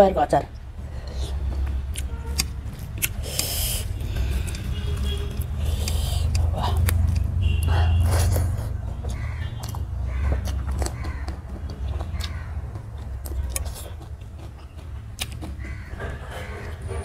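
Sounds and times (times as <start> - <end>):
wet chewing and lip smacking: 1.1 - 16.9.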